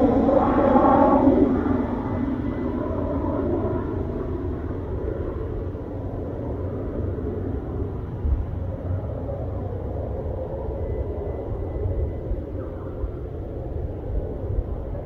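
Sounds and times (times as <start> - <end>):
helicopter rotor rumble: 0.0 - 15.0.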